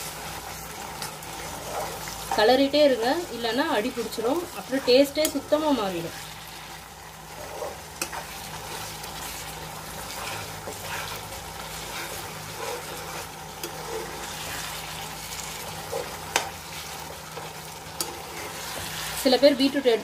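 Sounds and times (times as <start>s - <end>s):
low sizzle: 0.0s - 20.0s
spatula scraping pan: 0.0s - 20.0s.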